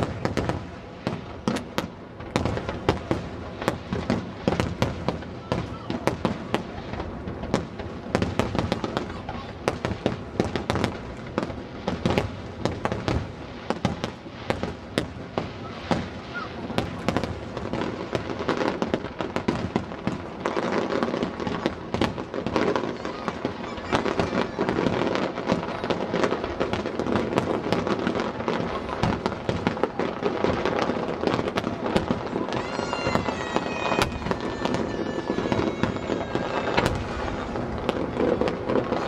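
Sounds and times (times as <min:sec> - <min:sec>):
fireworks bangs: 0:00.0 - 0:39.0.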